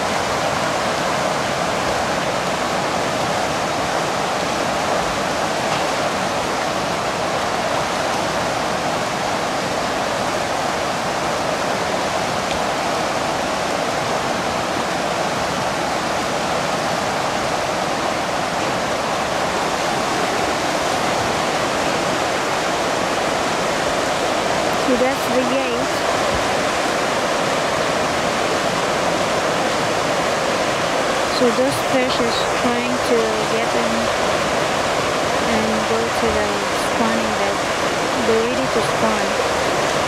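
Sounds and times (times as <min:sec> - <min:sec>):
water rushing through weir: 0:00.0 - 0:40.0.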